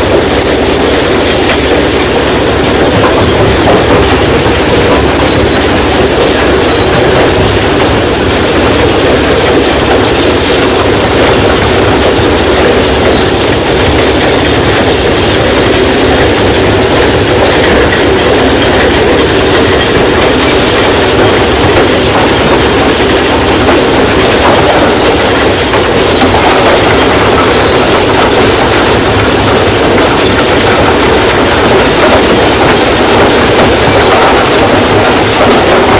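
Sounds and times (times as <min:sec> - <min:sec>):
stone crushing machine rumbling: 0:00.0 - 0:35.9.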